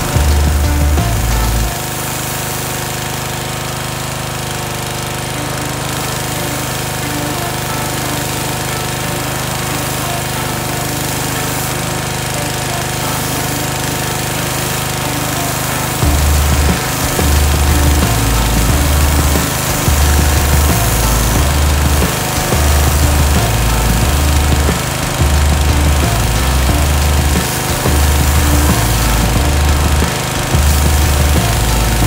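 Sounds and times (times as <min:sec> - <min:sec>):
pressure washer running: 0:00.0 - 0:32.0.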